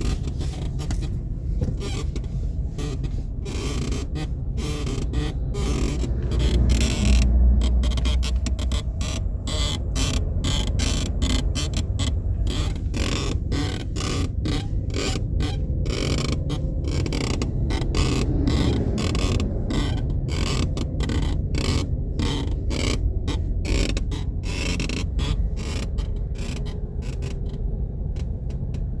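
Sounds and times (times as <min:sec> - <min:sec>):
car seat creaking and clicking: 0:00.0 - 0:29.0
steady low rumble: 0:00.0 - 0:29.0.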